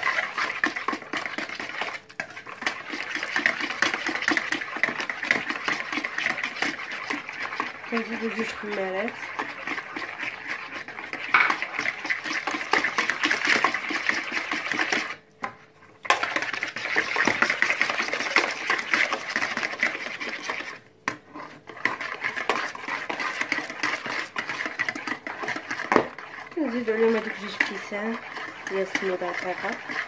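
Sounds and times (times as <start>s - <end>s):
whisk clattering in a bowl: 0.0s - 15.2s, 16.0s - 30.0s.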